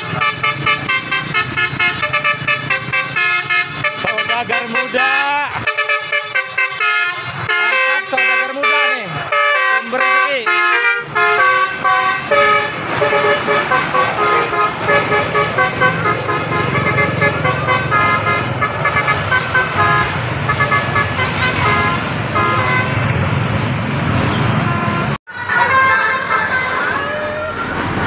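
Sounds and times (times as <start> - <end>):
multi-tone bus horn melody: 0.0 - 23.6, 24.2 - 28.0
bus engine rumbling: 0.0 - 28.0.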